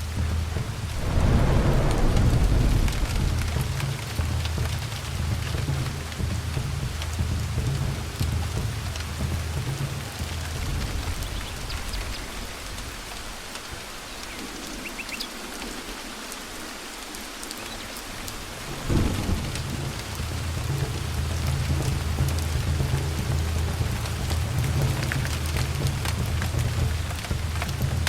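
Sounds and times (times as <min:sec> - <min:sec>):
thunder rumbling: 0:00.0 - 0:13.9, 0:18.4 - 0:28.0
steady rain: 0:00.0 - 0:28.0.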